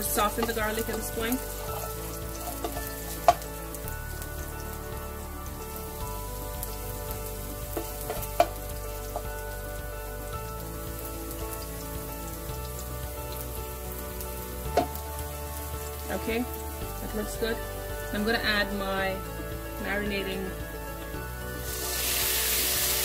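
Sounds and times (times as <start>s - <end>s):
garlic sizzling in oil: 0.0s - 23.0s.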